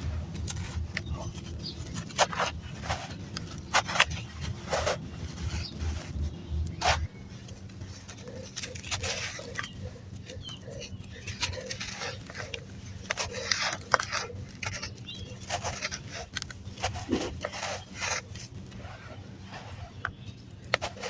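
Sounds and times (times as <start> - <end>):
sand crunching and crumbling: 0.0 - 21.0.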